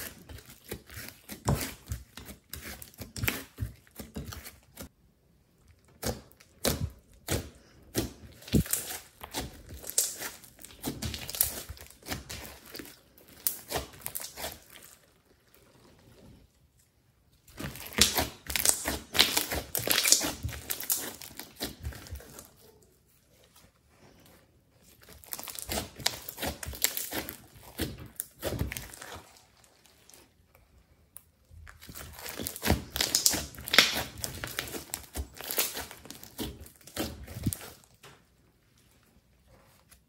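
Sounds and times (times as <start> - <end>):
slime squishing and crackling: 0.0 - 4.9, 5.6 - 39.1.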